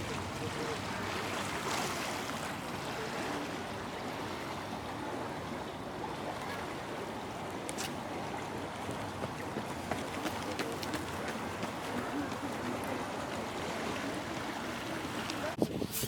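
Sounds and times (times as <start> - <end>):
flowing water rushing: 0.0 - 15.6.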